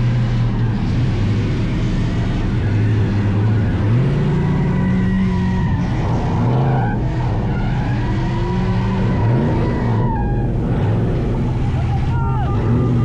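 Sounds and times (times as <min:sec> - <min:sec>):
truck engine revving: 0:00.0 - 0:13.0
tyres squealing and skidding: 0:00.0 - 0:13.0.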